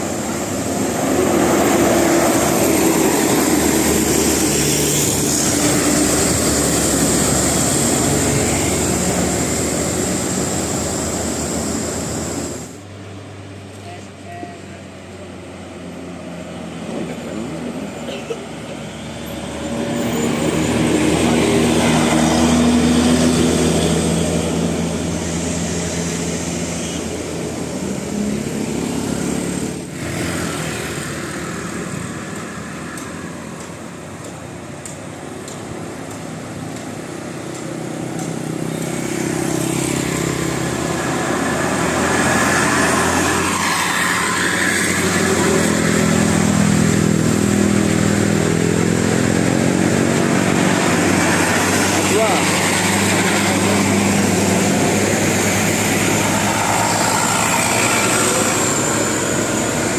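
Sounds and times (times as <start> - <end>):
motorcycles passing: 0.0 - 12.8, 16.8 - 59.9
road traffic passing: 0.0 - 59.9.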